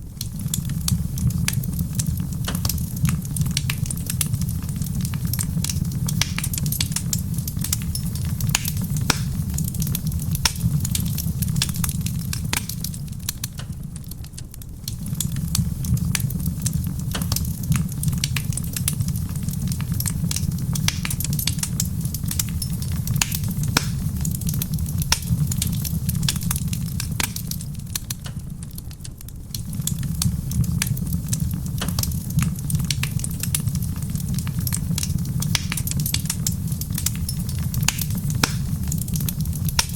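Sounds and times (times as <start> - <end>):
soft rain: 0.0 - 39.9
wood fire crackling and popping: 0.0 - 39.9.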